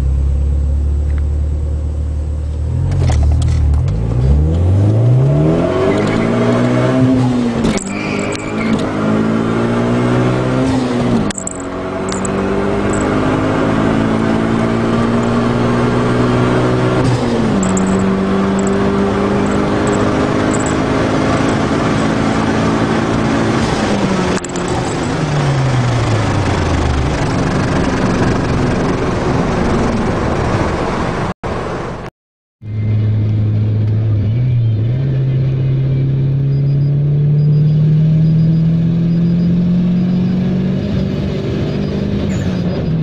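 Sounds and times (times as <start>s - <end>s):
car engine accelerating: 0.0s - 32.0s, 32.6s - 43.0s.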